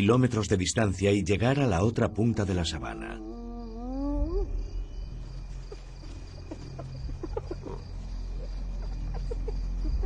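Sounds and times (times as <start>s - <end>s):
insect chirring: 0.0s - 10.0s.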